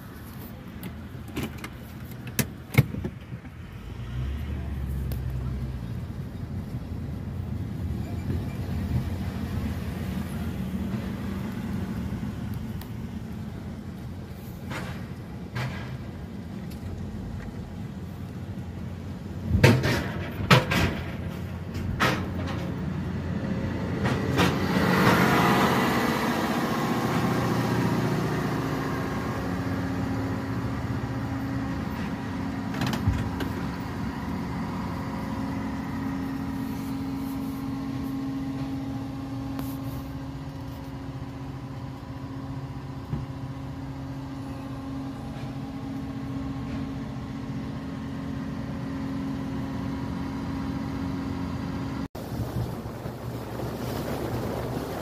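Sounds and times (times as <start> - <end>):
steady engine hum: 0.0 - 55.0.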